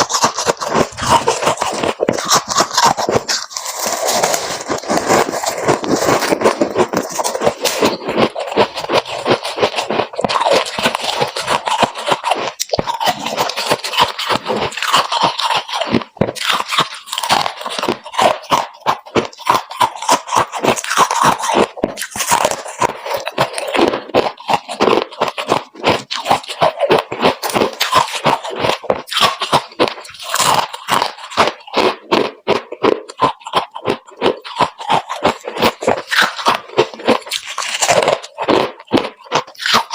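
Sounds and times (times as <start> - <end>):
chewing crisp frost: 0.0 - 39.9.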